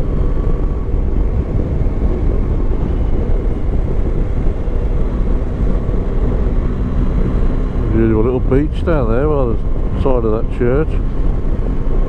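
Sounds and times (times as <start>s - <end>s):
motorcycle engine cruising: 0.0s - 12.0s
wind rushing: 0.0s - 12.0s.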